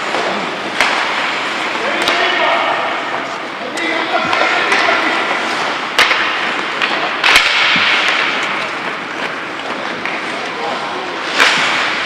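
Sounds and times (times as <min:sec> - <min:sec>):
puck impacts: 0:00.0 - 0:12.0
skates scraping on ice: 0:00.0 - 0:12.0.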